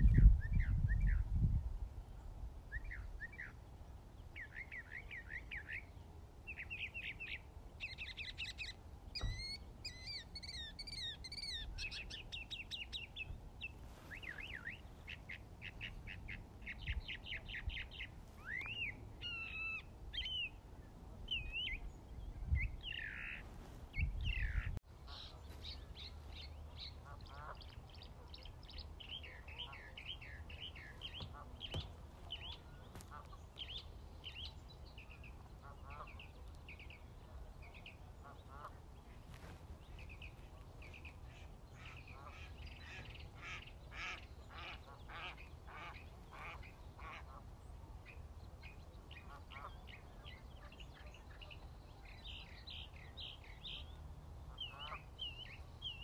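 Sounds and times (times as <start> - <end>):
songbirds chirping and singing: 2.8 - 56.0.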